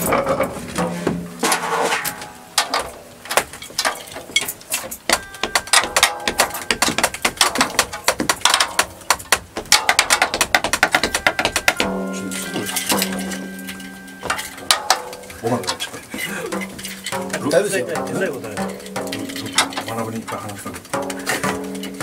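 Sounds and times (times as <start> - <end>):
drumstick tapping drumhead: 0.0 - 22.0.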